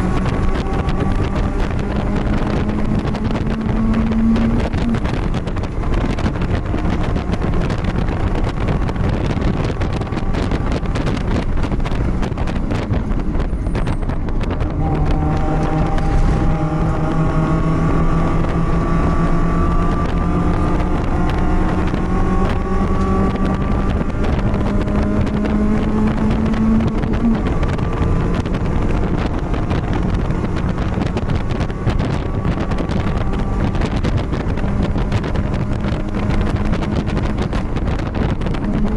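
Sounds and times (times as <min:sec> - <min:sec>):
race car engine: 0:00.0 - 0:38.9
wind and road noise: 0:00.0 - 0:38.9.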